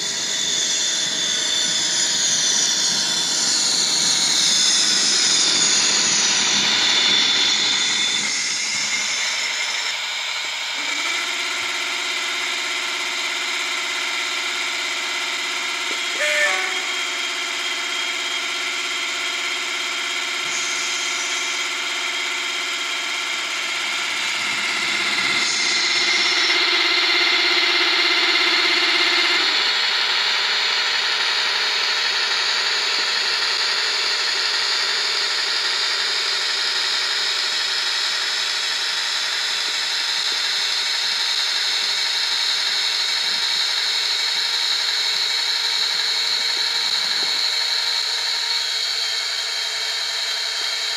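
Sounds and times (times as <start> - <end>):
model train diesel engine sound: 0.0 - 50.9.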